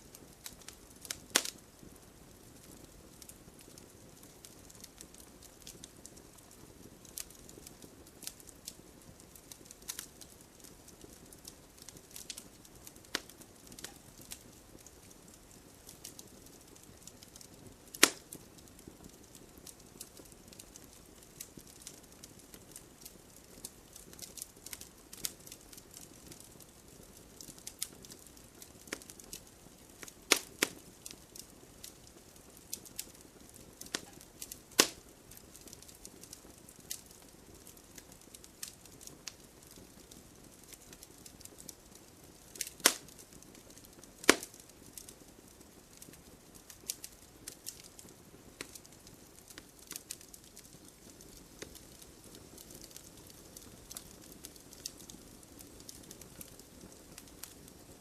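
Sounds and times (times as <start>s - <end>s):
campfire crackling and popping: 0.0s - 58.0s
faint steady hiss: 0.0s - 58.0s.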